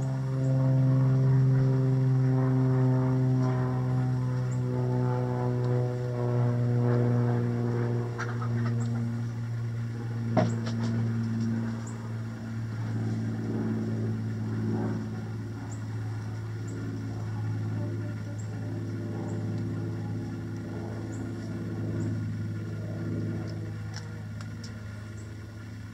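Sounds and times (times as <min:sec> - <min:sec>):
propeller airplane droning overhead: 0:00.0 - 0:25.9.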